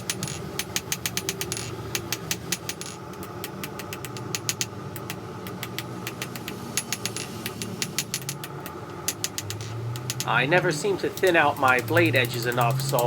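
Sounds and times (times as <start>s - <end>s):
hammer striking hot steel: 0.0s - 13.0s
low machine hum: 0.0s - 13.0s.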